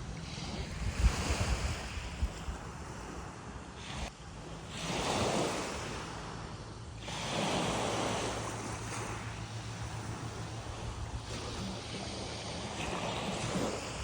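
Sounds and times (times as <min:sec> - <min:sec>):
sea waves washing onto beach: 0:00.0 - 0:14.0.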